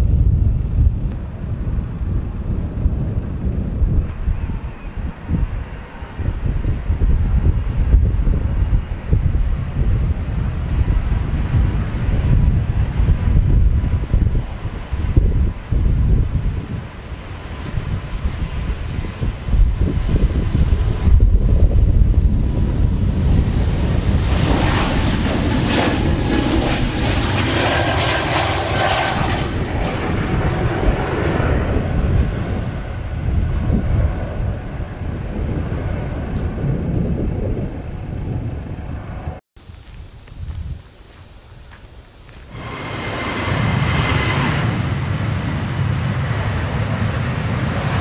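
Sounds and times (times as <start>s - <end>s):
jet engines at takeoff: 0.0s - 48.0s.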